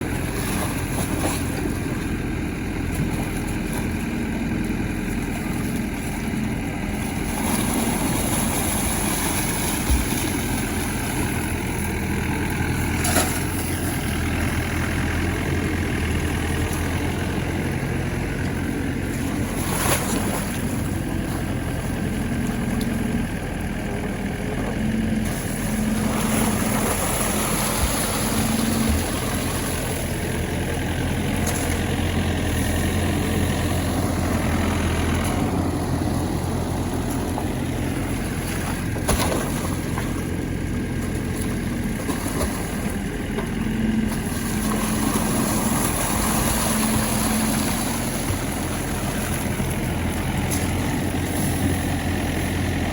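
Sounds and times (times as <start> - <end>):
diesel engine running at low revs: 0.0 - 52.9.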